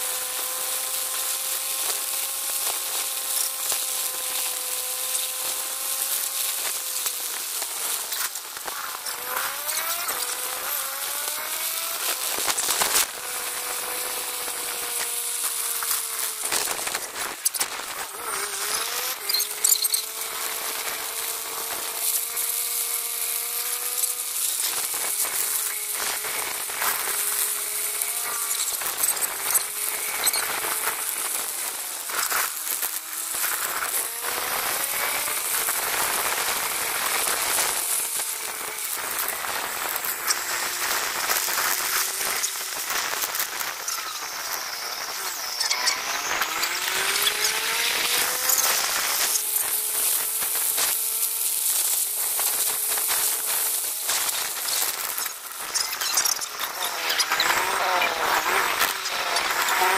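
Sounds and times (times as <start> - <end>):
small motorcycle engine revving: 0.0 - 59.9.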